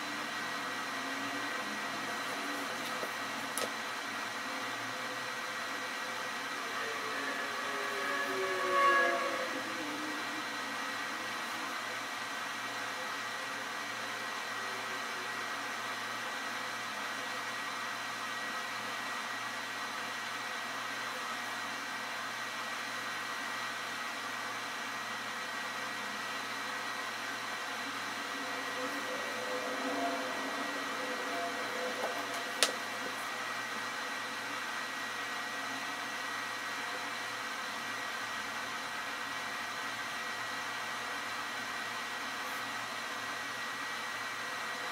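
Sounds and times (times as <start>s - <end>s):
faint hum: 0.0s - 44.9s.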